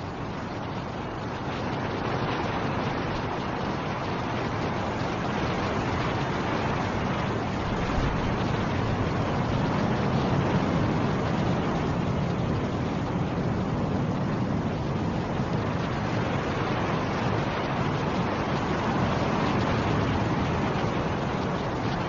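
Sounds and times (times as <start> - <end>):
snowstorm wind blowing: 0.0 - 22.0.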